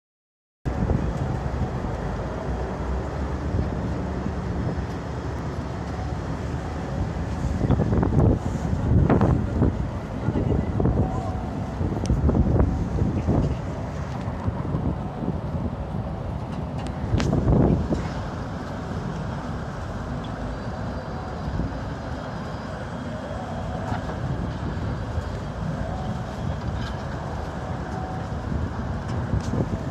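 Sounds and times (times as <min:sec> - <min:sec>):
strong wind on microphone: 0:00.7 - 0:29.9.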